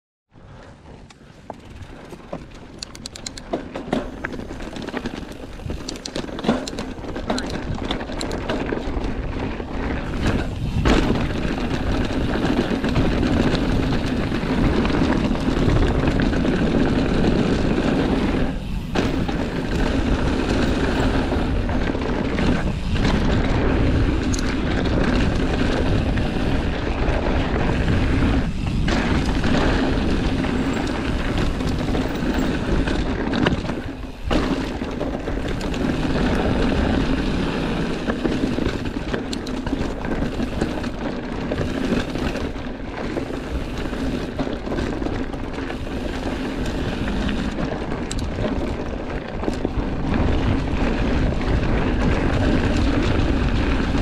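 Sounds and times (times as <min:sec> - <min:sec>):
wind buffeting microphone: 0:00.3 - 0:54.0
tyres rolling over gravel: 0:00.4 - 0:54.0.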